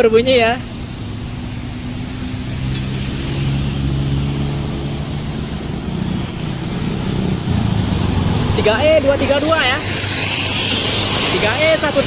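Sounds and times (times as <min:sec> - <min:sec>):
bus diesel engine drone: 0:00.0 - 0:12.0
tyre and road noise: 0:00.0 - 0:12.0.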